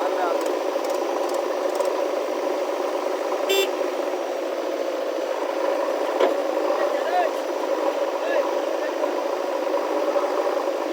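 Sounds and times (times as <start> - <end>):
heavy diesel machinery running: 0.0 - 10.9.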